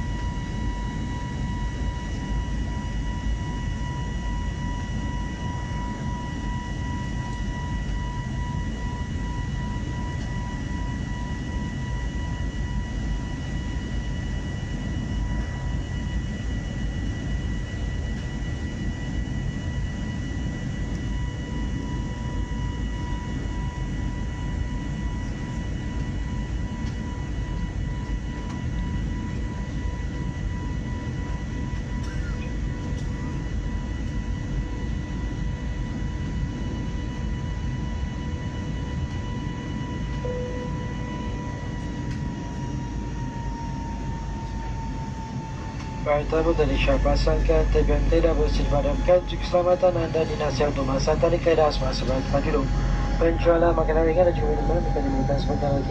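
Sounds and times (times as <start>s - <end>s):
airliner cabin engine rumble: 0.0s - 55.9s
faint high whine: 0.0s - 55.9s.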